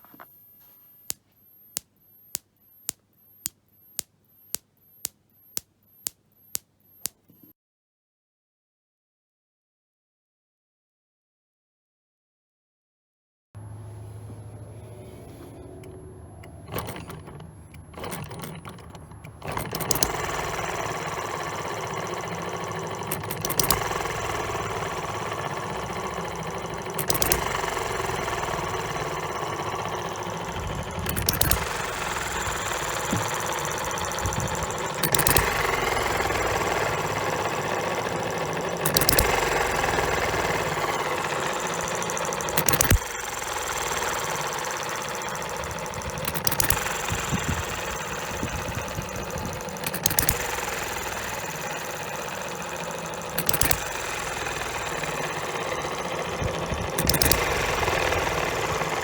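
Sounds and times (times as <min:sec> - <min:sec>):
model engine running: 0:00.0 - 0:07.4, 0:13.6 - 0:59.0
starter clicks: 0:00.0 - 0:07.5, 0:15.8 - 0:59.0.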